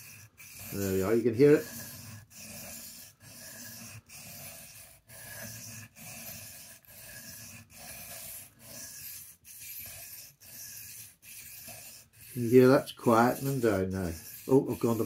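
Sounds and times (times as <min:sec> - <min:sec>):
knife scraping on whetstone: 0:00.0 - 0:15.0.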